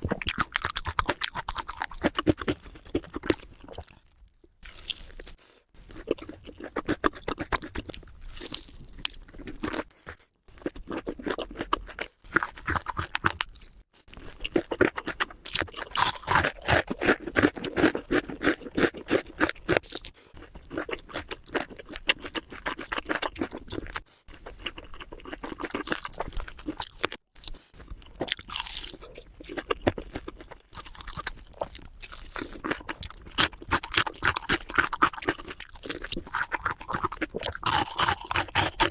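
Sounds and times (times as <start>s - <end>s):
crunchy food chewing: 0.0s - 38.9s.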